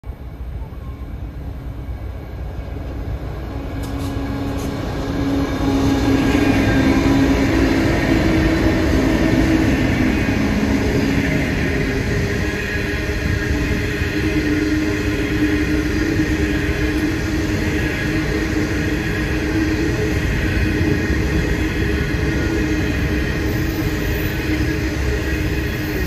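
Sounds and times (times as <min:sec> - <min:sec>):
diesel locomotives droning: 0:00.0 - 0:26.0
train wheels rumbling on rails: 0:00.0 - 0:26.0.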